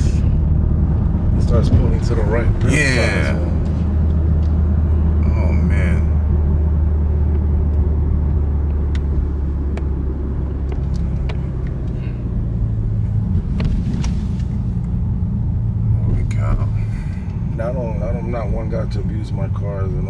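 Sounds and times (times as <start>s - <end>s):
car engine and road drone: 0.0s - 20.0s.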